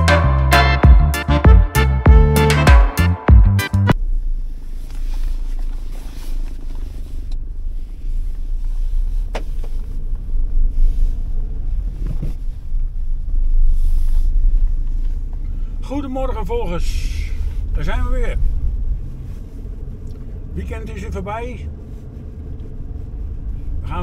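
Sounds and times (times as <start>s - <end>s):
car interior rumble: 3.9s - 24.0s.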